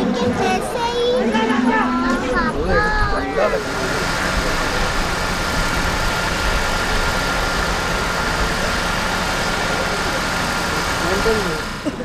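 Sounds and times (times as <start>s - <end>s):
engine running: 2.1s - 12.0s.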